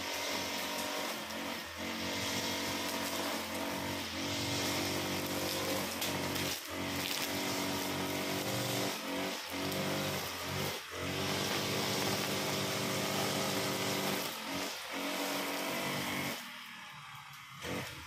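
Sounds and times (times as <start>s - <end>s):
brush cutter engine cutting grass: 0.0s - 18.0s.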